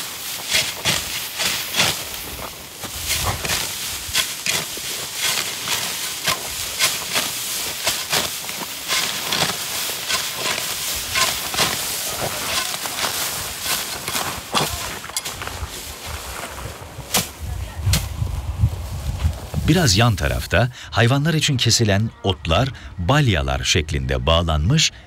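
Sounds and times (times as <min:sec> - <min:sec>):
rustle of stalks: 0:00.0 - 0:20.6
sickles cutting dry stalks: 0:00.0 - 0:20.6.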